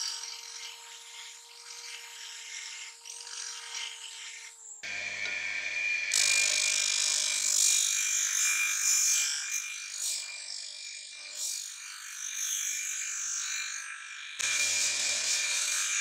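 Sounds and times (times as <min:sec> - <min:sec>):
disc sander whining: 0:00.0 - 0:13.0, 0:13.8 - 0:16.0
hissing grind of steel blade: 0:00.0 - 0:16.0.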